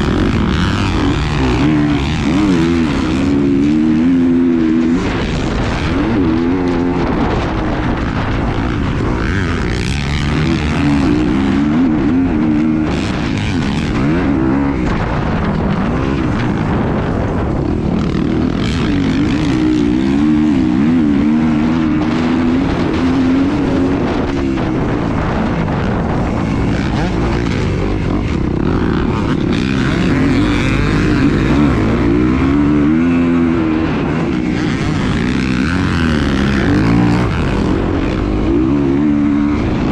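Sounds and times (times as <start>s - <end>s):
motor drone wavering: 0.0s - 39.9s
wind rumble on microphone: 0.0s - 39.9s.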